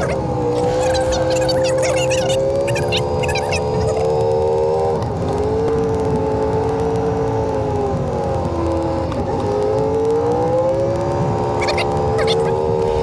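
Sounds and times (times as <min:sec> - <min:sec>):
road rumble: 0:00.0 - 0:13.0
vehicle engine accelerating: 0:00.0 - 0:13.0.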